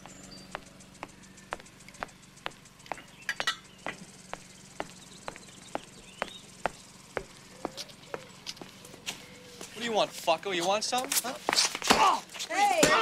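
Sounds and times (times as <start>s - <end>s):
footsteps on asphalt: 0.0s - 12.8s.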